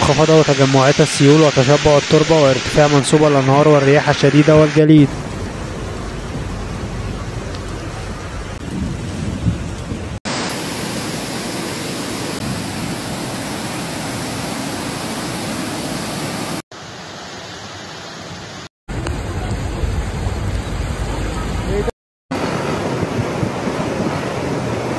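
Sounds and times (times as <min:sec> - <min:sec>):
rushing floodwater: 0:00.0 - 0:08.6, 0:10.2 - 0:24.9
heavy rain: 0:00.0 - 0:24.9.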